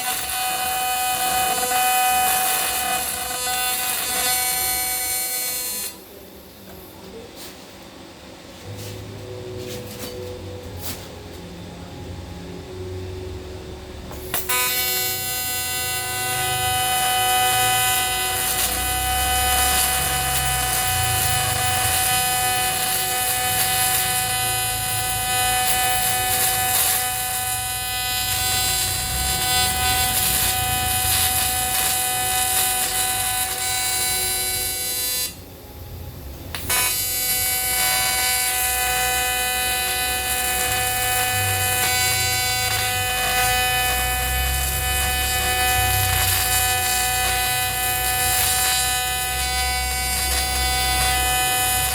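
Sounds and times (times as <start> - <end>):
welding arc buzzing: 0.0 - 6.2, 14.1 - 51.9.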